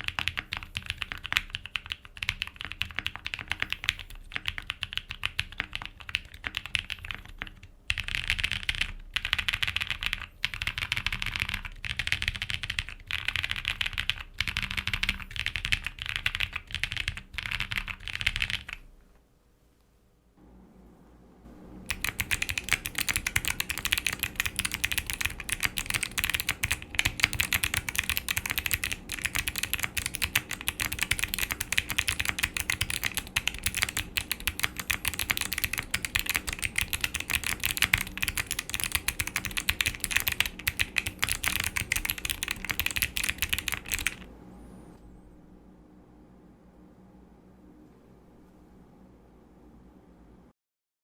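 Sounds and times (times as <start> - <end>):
mechanical keyboard typing clicks: 0.0 - 18.8, 21.9 - 44.2.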